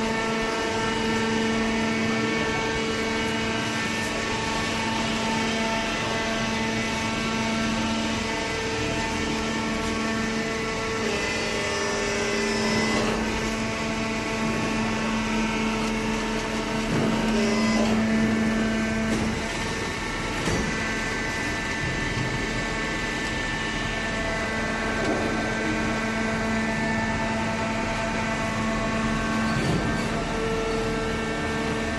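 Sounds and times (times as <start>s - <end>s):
hydraulic baler motor humming: 0.0s - 31.9s.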